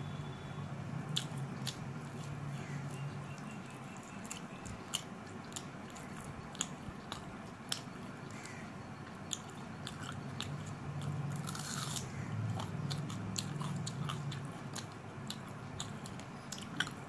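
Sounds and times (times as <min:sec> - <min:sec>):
low steady hum: 0:00.0 - 0:17.0
person chewing with wet smacks: 0:01.1 - 0:17.0.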